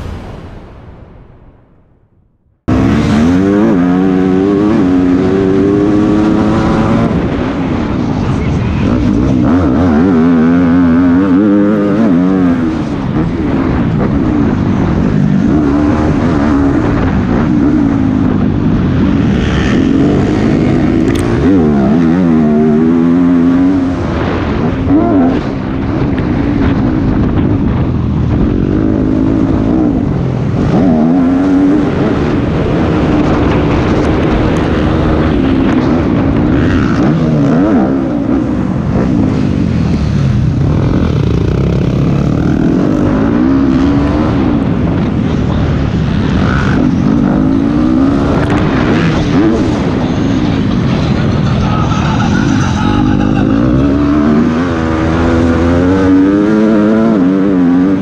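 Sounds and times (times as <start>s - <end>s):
motocross bike engine revving: 2.7s - 7.8s, 8.8s - 26.1s, 26.7s - 58.0s.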